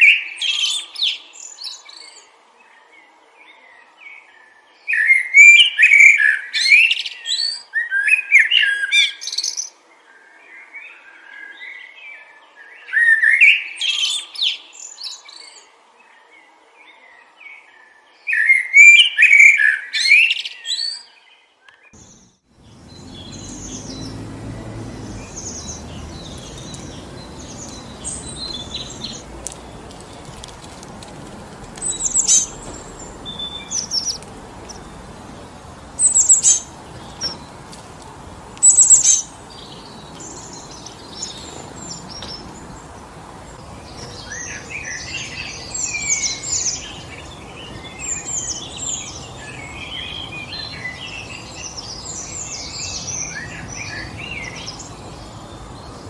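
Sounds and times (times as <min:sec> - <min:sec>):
songbirds chirping: 0:00.0 - 0:56.0
wind through forest: 0:00.0 - 0:56.0.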